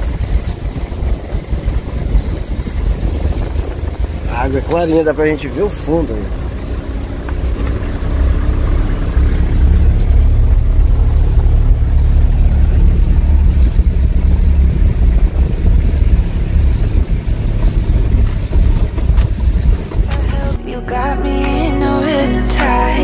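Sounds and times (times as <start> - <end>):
tyres rumbling on wooden planks: 0.0 - 20.6.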